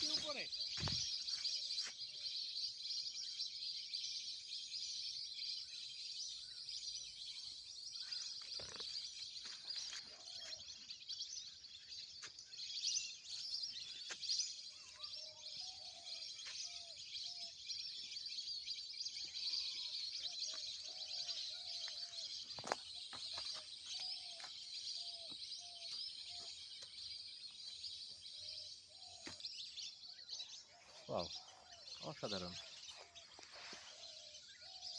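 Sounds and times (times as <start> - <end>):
birds chirping chorus: 0.0 - 34.9
low wavering bird calls: 0.0 - 34.9.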